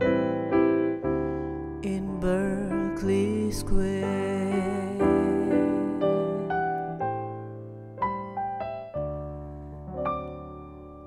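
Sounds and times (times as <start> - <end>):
electric piano chords: 0.0 - 11.0.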